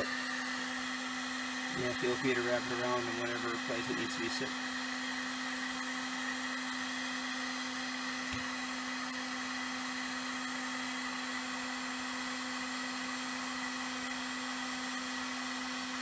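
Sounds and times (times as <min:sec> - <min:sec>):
heat gun blowing hot air: 0:00.0 - 0:16.0.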